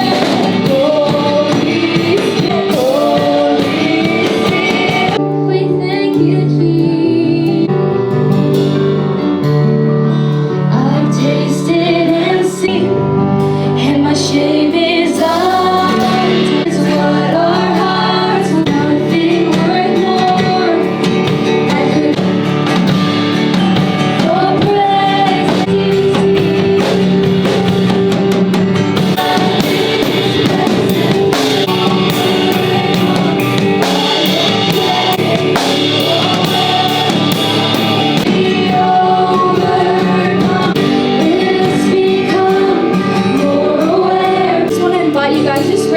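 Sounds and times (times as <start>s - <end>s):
person singing: 0.0s - 8.1s, 10.6s - 22.9s, 23.8s - 45.9s
bass: 0.0s - 45.9s
drums: 0.0s - 45.9s
guitar: 0.0s - 45.9s.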